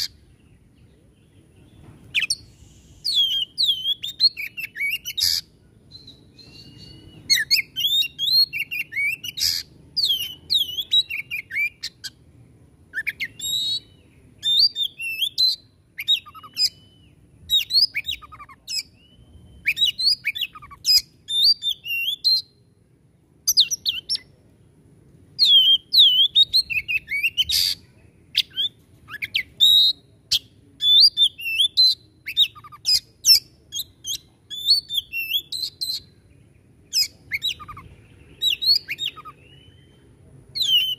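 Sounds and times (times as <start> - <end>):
magpie-robin singing: 0.0 - 12.2, 12.9 - 22.7, 23.4 - 24.3, 25.4 - 40.9.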